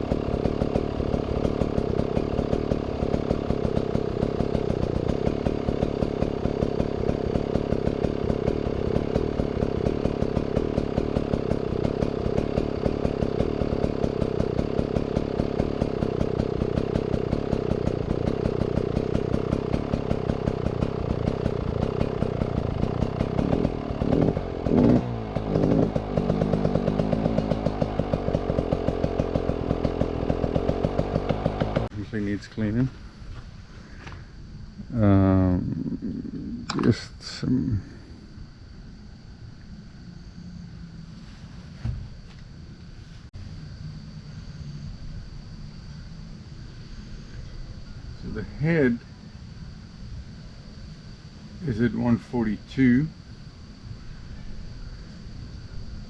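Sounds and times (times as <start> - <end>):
two-stroke engine idling: 0.0 - 32.8, 42.2 - 56.0.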